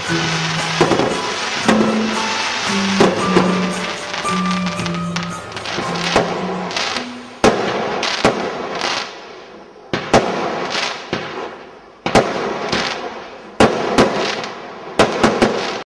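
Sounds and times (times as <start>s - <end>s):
fireworks banging: 0.0s - 15.8s
fireworks popping and crackling: 0.0s - 15.9s.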